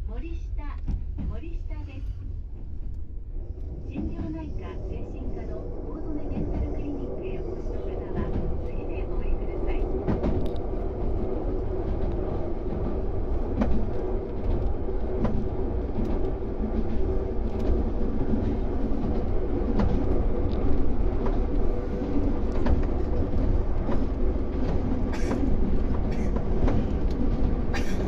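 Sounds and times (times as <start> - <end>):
electric train rumble and hum: 0.0 - 28.0.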